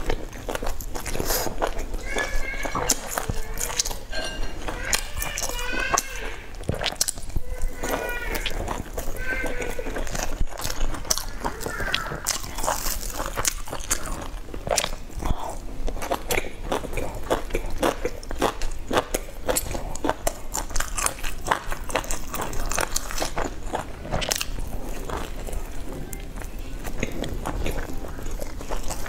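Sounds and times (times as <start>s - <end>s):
person chewing soft buns: 0.0s - 29.0s.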